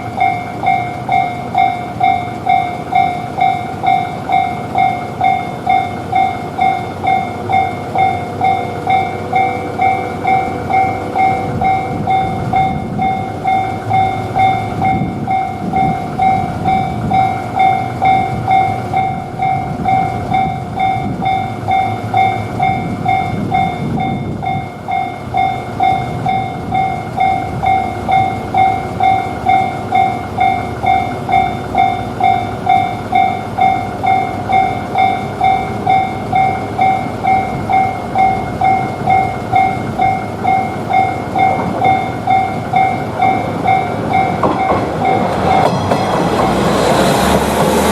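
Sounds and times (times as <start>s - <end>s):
level crossing bell ringing: 0.0s - 47.9s
train rumbling past: 0.0s - 47.9s.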